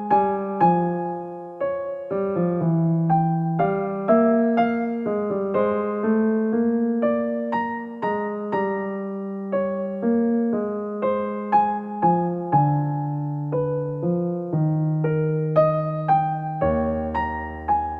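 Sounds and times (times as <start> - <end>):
gentle piano melody: 0.0 - 17.9.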